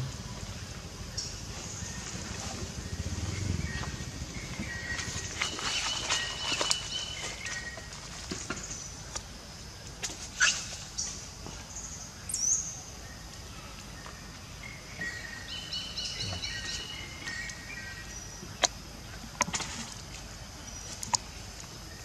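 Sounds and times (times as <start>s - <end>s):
forest ambience: 0.0s - 22.0s.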